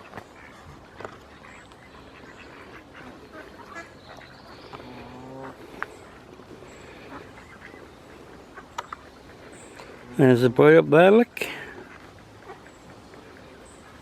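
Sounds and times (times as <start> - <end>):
geese and ducks calling: 0.0 - 14.0.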